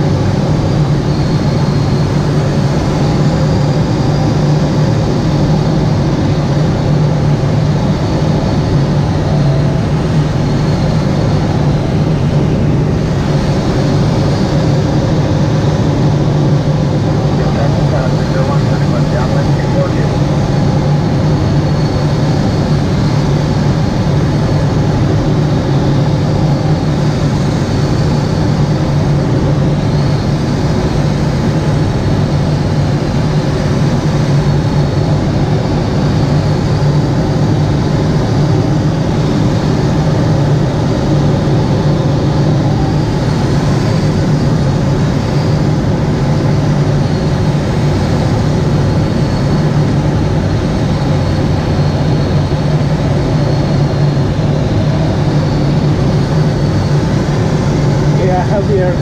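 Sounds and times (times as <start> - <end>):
airflow drone in cockpit: 0.0 - 59.0
constant low hum: 0.0 - 59.0.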